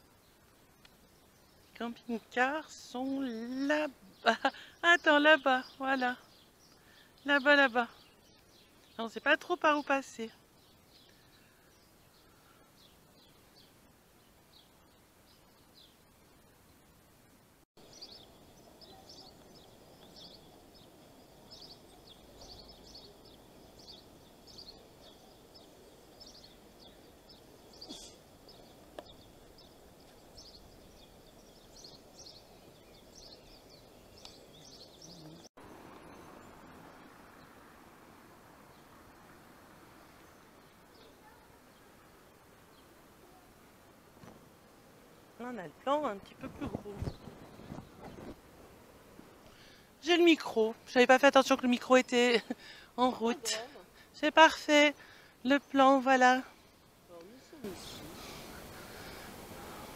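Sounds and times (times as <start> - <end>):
faint steady hiss: 0.0 - 59.9
low steady background noise: 0.0 - 59.9
small birds chirping: 0.0 - 59.9.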